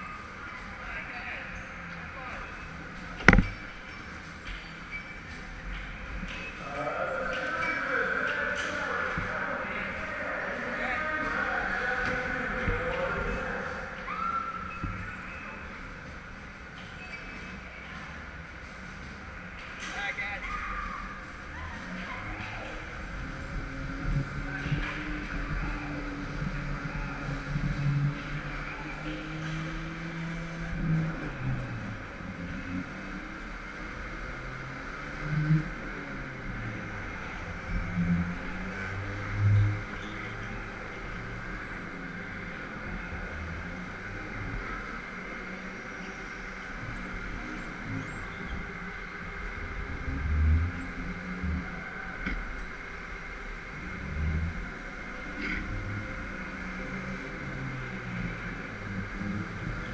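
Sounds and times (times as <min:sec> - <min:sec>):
go-kart motor: 0:00.0 - 0:59.9.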